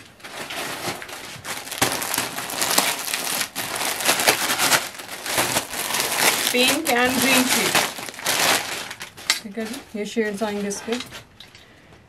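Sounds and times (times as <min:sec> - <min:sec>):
plastic packets crinkling: 0:00.0 - 0:11.6.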